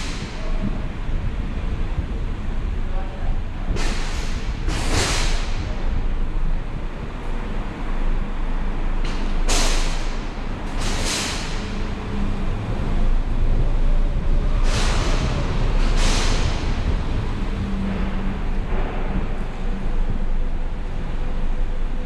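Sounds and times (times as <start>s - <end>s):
road and engine rumble: 0.0s - 22.0s.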